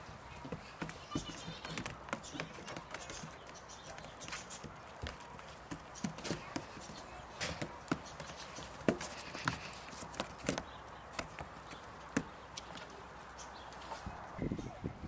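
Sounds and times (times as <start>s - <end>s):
goat hooves knocking on wood: 0.1s - 12.8s.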